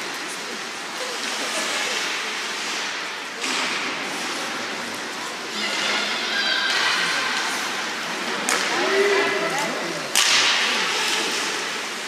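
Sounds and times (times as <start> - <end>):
arena crowd noise: 0.0 - 12.0
indistinct crowd voices: 0.0 - 12.0.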